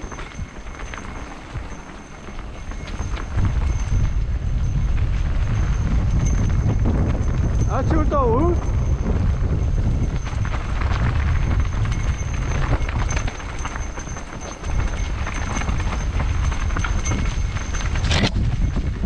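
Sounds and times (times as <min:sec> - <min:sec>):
mountain bike rattling on trail: 0:00.0 - 0:19.0
wind buffeting microphone: 0:00.0 - 0:19.0.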